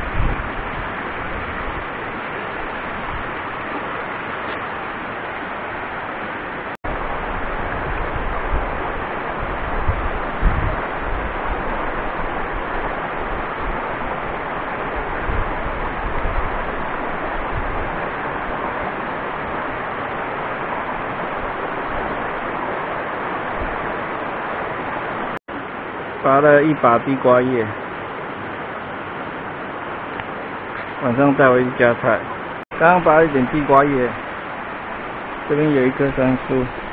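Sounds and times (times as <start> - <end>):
mountain creek rushing: 0.0 - 36.9.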